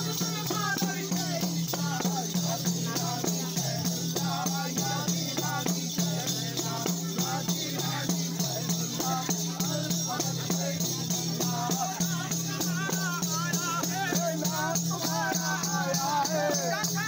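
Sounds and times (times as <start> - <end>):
hand drums beaten quickly: 0.0 - 17.0
rattling percussion: 0.0 - 17.0
voices singing: 0.0 - 17.0.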